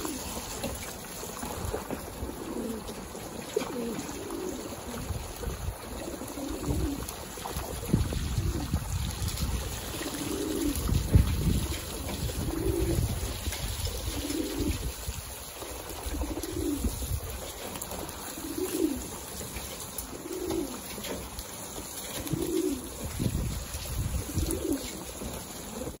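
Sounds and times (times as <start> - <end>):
pigeons cooing: 0.0 - 26.0
water splashing: 0.0 - 26.0.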